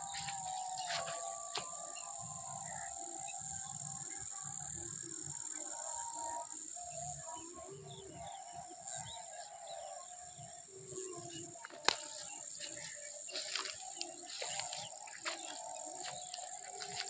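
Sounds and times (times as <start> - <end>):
birds chirping: 0.0 - 17.0
insects droning: 0.0 - 17.0.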